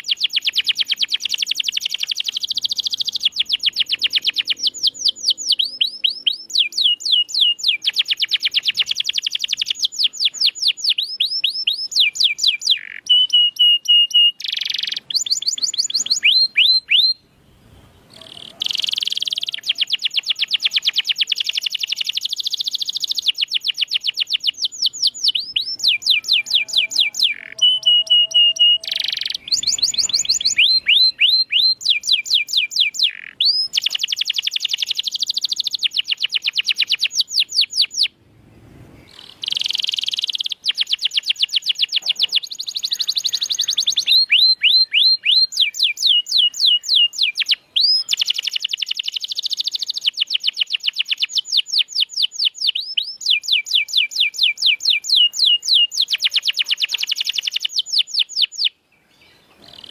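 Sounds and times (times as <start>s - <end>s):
canary singing trills: 0.0s - 38.2s, 39.0s - 59.9s.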